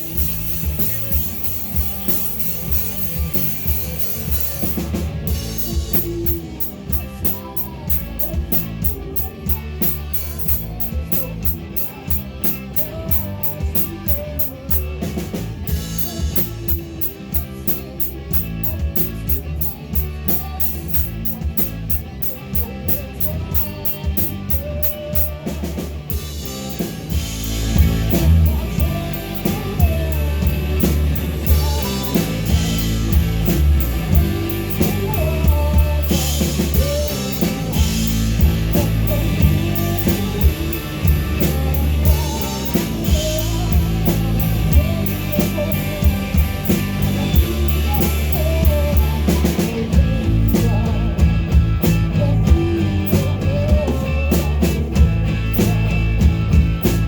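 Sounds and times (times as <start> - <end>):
drum kit hi-hat beat: 0.0 - 57.0
rock guitars and bass: 0.0 - 57.0.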